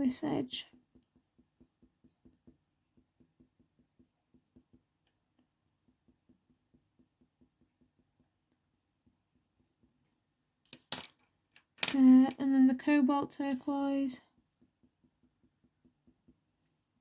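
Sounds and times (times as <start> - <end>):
coloured pencil strokes on paper: 0.0 - 10.7, 12.8 - 17.0.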